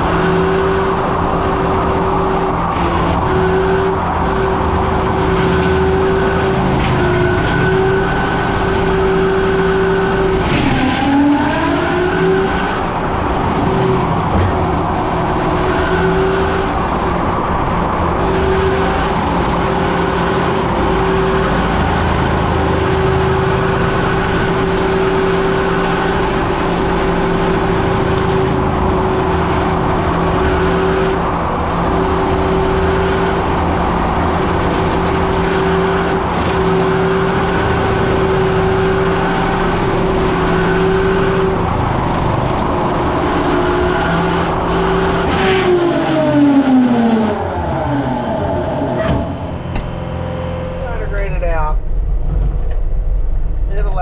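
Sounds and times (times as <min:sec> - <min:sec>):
skid steer engine running: 0:00.0 - 0:53.7
mower whine: 0:00.0 - 0:53.9.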